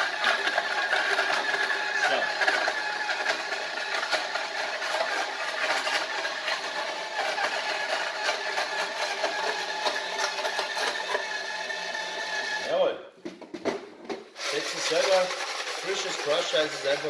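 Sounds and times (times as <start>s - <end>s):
ice being crushed: 0.0s - 12.6s, 14.4s - 17.0s
ice machine motor running: 0.0s - 12.8s, 14.4s - 17.0s.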